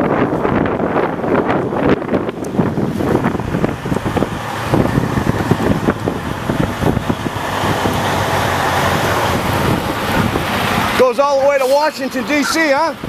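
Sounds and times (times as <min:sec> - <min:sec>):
wind buffeting microphone: 0:00.0 - 0:13.0
vehicle engine running: 0:00.1 - 0:13.0.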